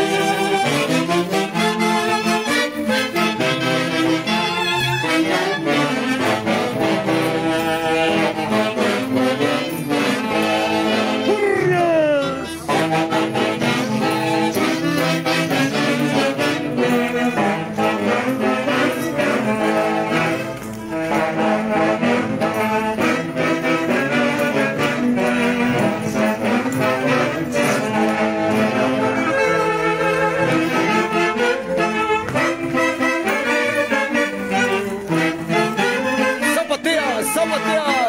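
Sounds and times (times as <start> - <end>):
folk orchestra with wind instruments: 0.0 - 38.0.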